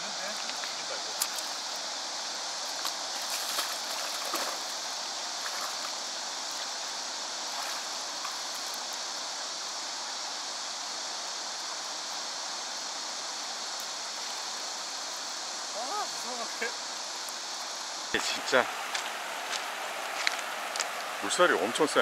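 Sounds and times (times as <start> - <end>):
fast-flowing river rushing: 0.0 - 22.0.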